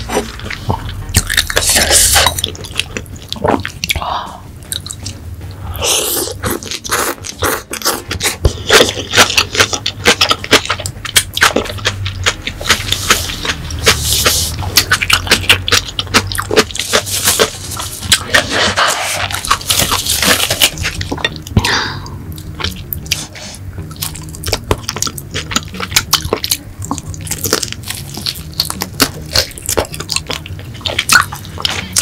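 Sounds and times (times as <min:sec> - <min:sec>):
person chewing with mouth smacks: 0:00.0 - 0:04.0, 0:04.6 - 0:05.2, 0:05.8 - 0:32.0.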